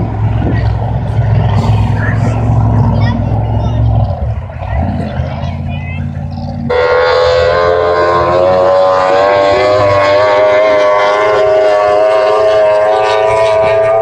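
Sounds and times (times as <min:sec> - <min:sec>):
jetboat engine whining: 0:00.0 - 0:14.0.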